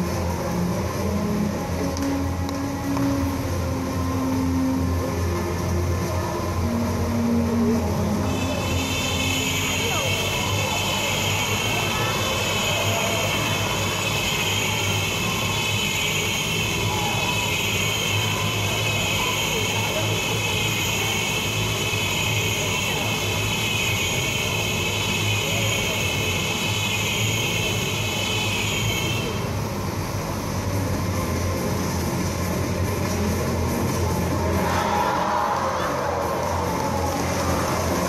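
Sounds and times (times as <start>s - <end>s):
high engine whine: 0.0s - 38.0s.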